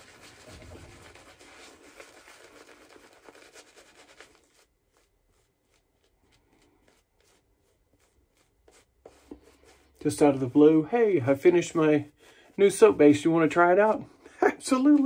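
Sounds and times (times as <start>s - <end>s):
shaving brush swishing through lather: 0.0s - 15.0s.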